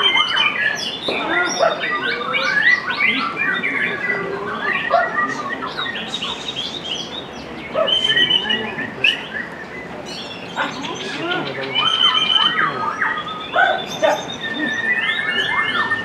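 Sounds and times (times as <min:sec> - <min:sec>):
bird singing whistles and trills: 0:00.0 - 0:16.0.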